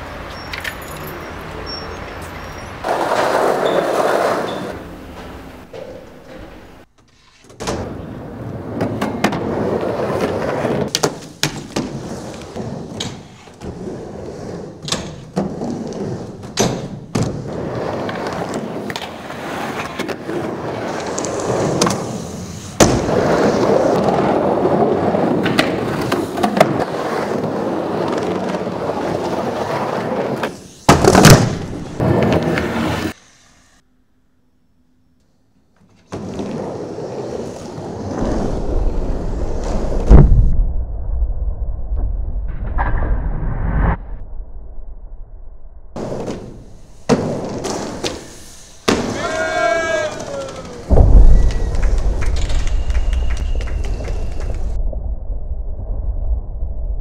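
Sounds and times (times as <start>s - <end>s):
skateboard wheels rolling on concrete: 0.0s - 33.8s, 35.8s - 40.6s, 46.0s - 54.8s.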